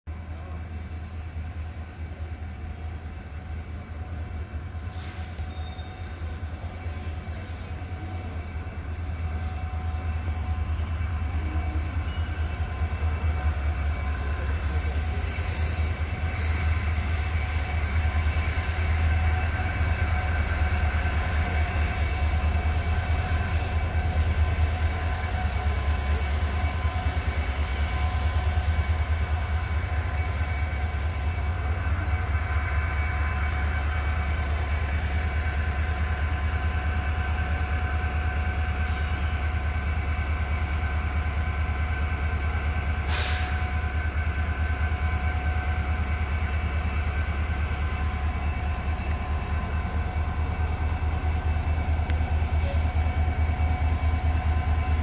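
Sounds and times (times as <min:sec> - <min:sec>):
train machine hum: 0:00.1 - 0:55.0.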